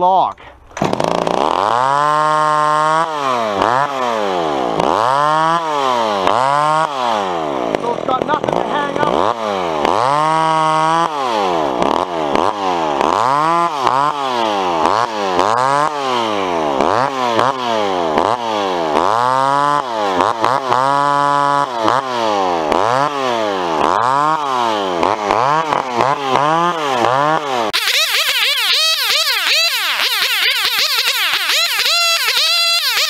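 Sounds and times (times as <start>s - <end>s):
chainsaw revving: 0.7s - 33.0s.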